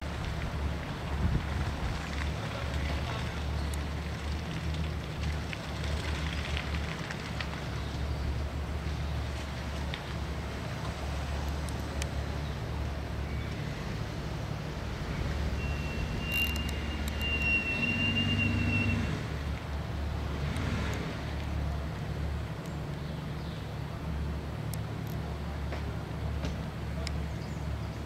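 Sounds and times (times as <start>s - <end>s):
engine rumbling at low revs: 0.0s - 28.0s.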